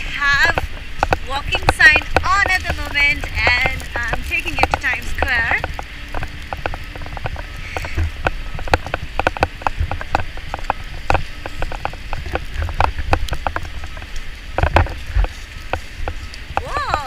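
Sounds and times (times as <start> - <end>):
wet snow ticking on camera: 0.0 - 17.0
wind rumble on microphone: 0.0 - 17.0.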